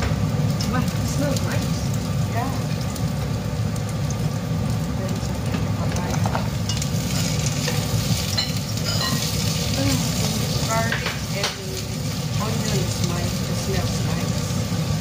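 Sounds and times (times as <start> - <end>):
oil sizzling in a saucepan: 0.0 - 15.0.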